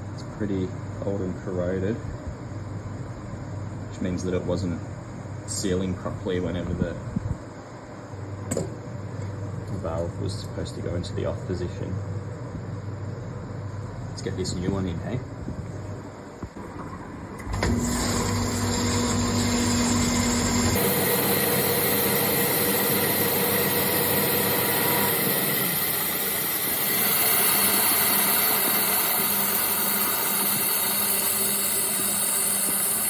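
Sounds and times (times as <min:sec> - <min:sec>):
mechanical running hum: 0:00.0 - 0:33.0.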